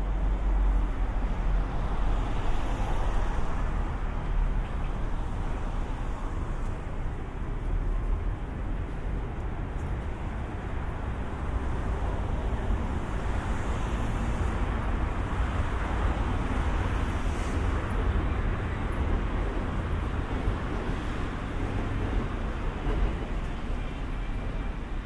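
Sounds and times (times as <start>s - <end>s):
city road traffic rumble: 0.0s - 25.0s.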